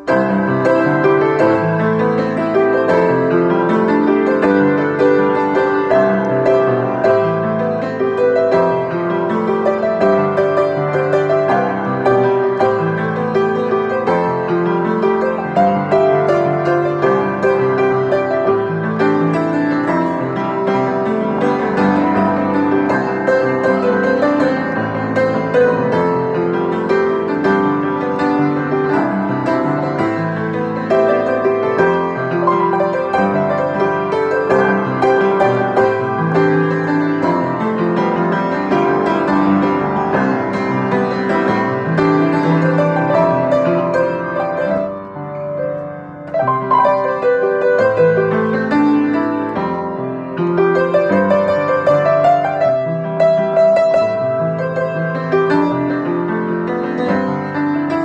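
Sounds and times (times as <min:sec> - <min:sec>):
upright piano playing: 0:00.0 - 0:58.0.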